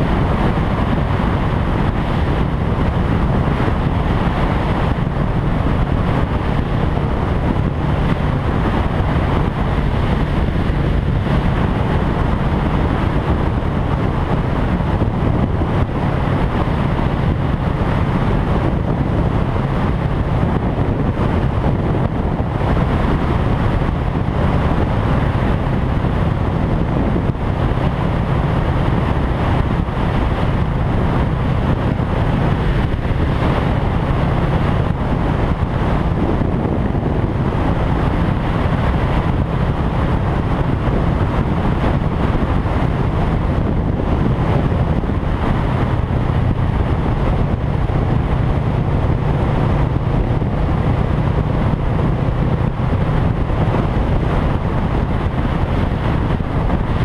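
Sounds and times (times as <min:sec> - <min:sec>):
motorcycle engine drone: 0:00.0 - 0:57.0
wind rushing over microphone: 0:00.0 - 0:57.0.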